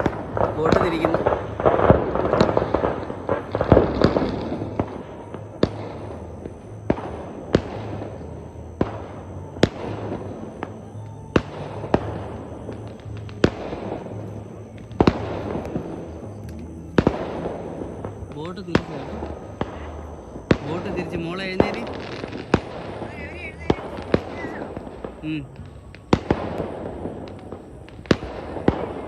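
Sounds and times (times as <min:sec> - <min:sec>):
firecrackers crackling and banging: 0:00.0 - 0:29.0
steady low hum: 0:00.0 - 0:29.0.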